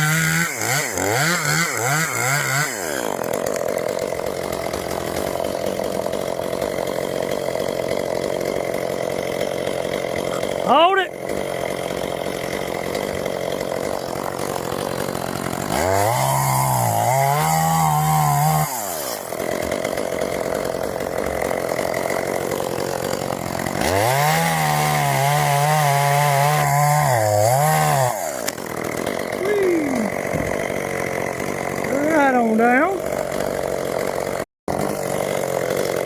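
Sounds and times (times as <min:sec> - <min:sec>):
chainsaw cutting wood: 0:00.0 - 0:36.0.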